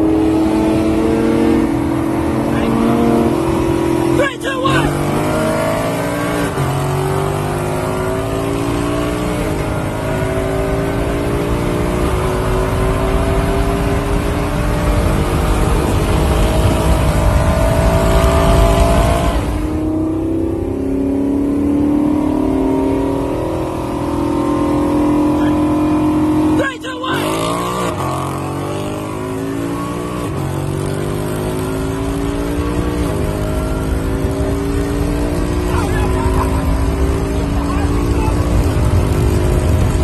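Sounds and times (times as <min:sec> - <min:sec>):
car engines at full throttle: 0:00.0 - 0:40.0.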